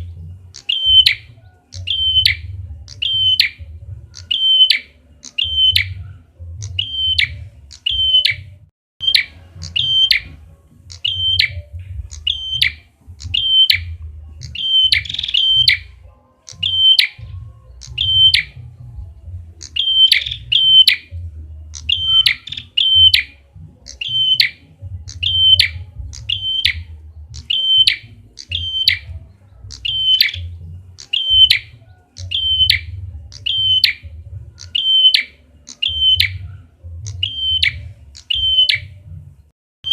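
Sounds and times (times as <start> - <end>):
bird chirping in pairs: 0.0 - 39.2.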